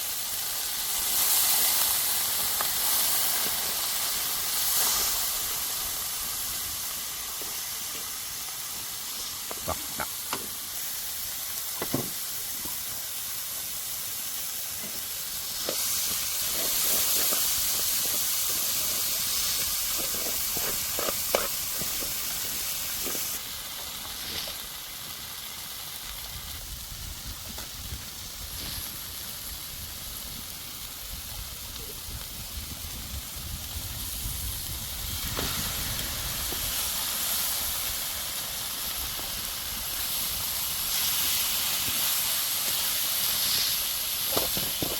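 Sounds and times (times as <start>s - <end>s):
food hissing over fire: 0.0s - 44.9s.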